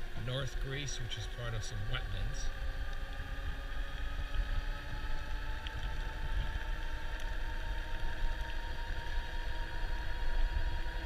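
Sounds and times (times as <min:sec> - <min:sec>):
electric hub motor whine: 0:00.0 - 0:11.0
wind rumbling on microphone: 0:00.0 - 0:11.0.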